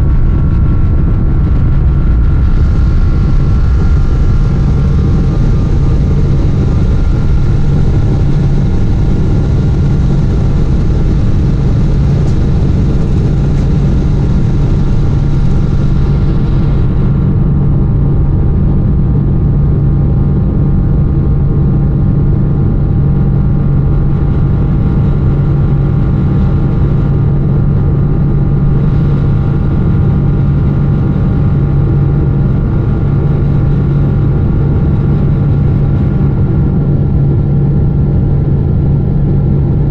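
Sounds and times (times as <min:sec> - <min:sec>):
faint steady whining tones: 0:00.0 - 0:39.9
jet engine drone in cabin: 0:00.0 - 0:39.9.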